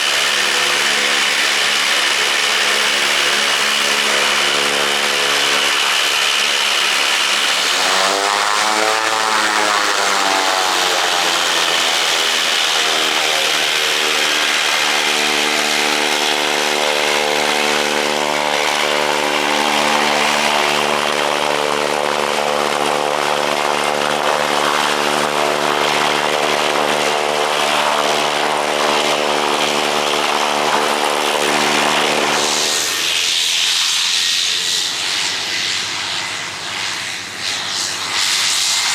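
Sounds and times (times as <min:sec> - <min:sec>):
propeller airplane engine running: 0:00.0 - 0:38.9.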